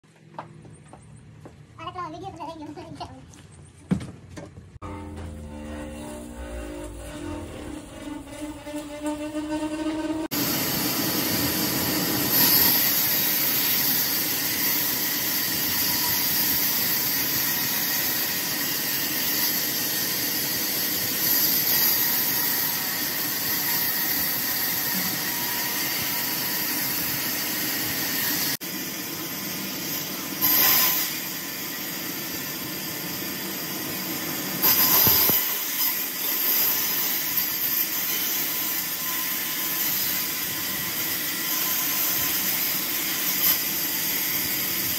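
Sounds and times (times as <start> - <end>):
band saw cutting log: 4.8 - 44.9.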